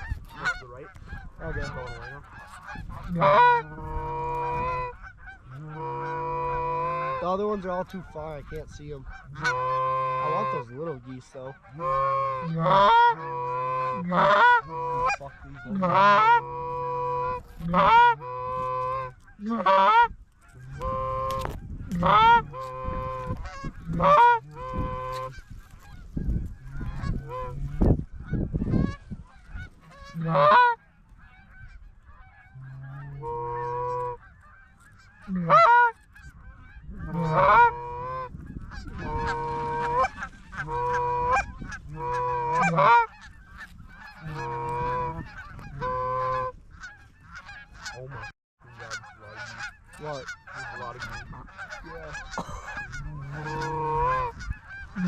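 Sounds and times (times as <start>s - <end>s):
geese honking and clucking: 0.0s - 55.0s.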